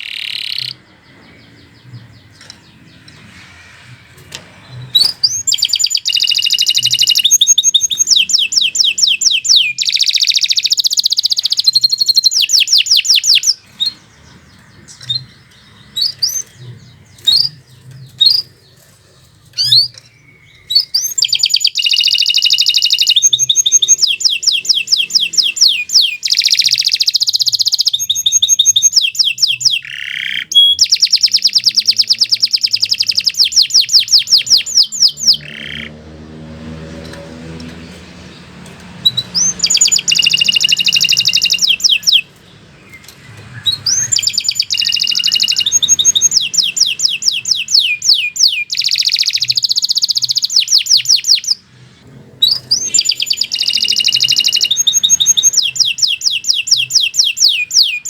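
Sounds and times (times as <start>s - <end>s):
canary singing trills: 0.0s - 36.2s, 36.9s - 58.0s.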